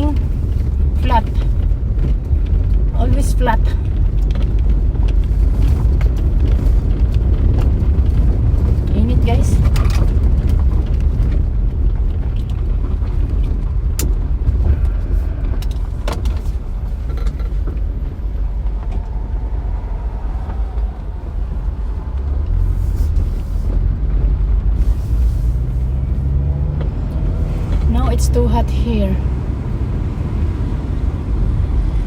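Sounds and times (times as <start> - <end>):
road and engine rumble: 0.0 - 32.0.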